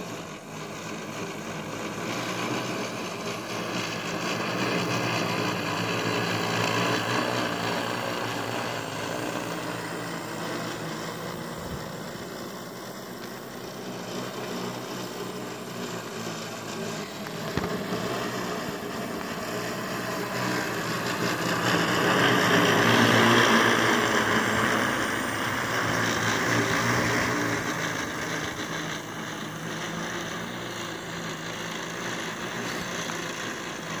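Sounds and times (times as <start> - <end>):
drone propellers buzzing: 0.0 - 34.0.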